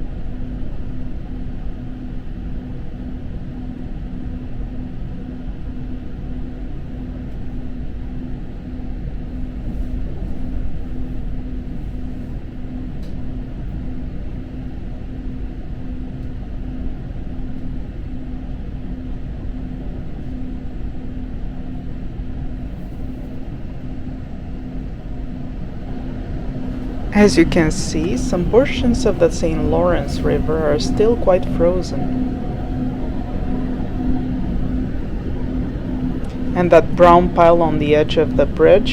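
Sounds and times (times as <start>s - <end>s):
constant low hum: 0.0s - 38.9s
electric train running rumble: 0.0s - 38.9s.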